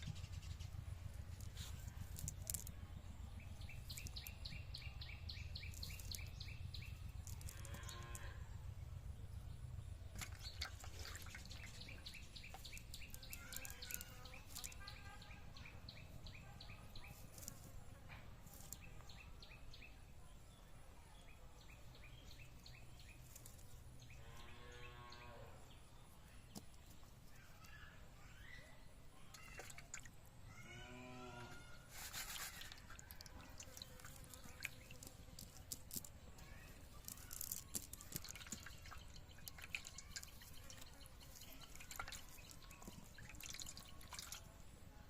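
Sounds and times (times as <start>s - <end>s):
birds chirping: 0.0s - 17.6s, 18.5s - 44.6s.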